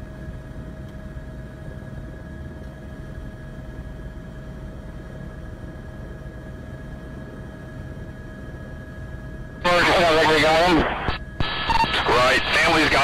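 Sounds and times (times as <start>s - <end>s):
helicopter engine and rotor rumble: 0.0s - 13.0s.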